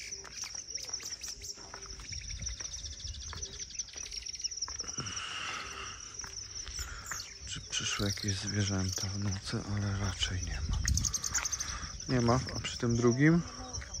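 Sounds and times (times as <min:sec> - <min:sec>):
birds chirping: 0:00.0 - 0:14.0
high-pitched insect trill: 0:00.0 - 0:14.0.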